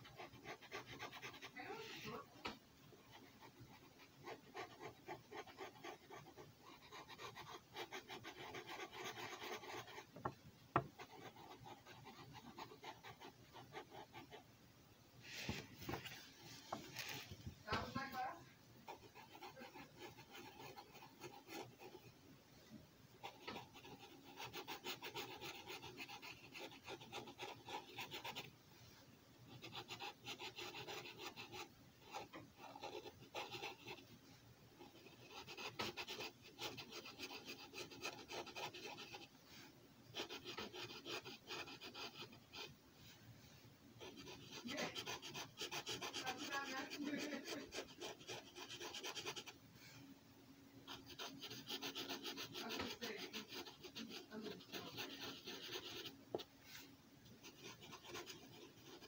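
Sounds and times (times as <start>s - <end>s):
marker scratching on paper: 0.0s - 2.3s, 3.1s - 14.4s, 18.9s - 22.0s, 23.2s - 28.5s, 29.5s - 34.0s, 34.8s - 39.3s, 40.1s - 42.7s, 44.0s - 49.6s, 50.9s - 59.0s.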